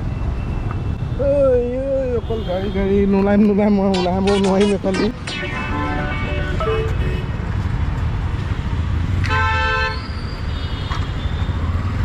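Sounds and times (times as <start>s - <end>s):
road traffic engines: 0.0s - 12.0s.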